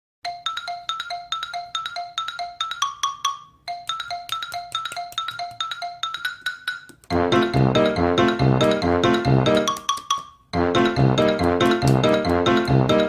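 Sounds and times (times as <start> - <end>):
mallet percussion melody: 0.3 - 13.0.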